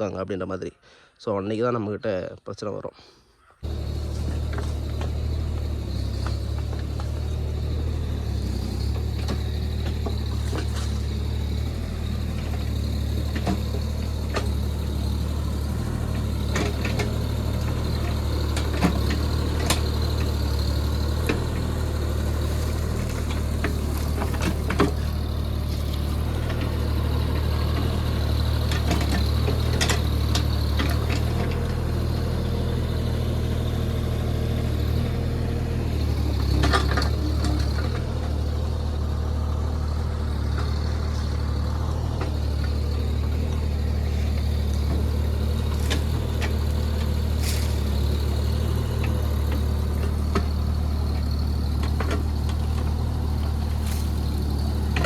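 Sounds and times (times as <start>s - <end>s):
excavator engine running: 3.6s - 55.0s.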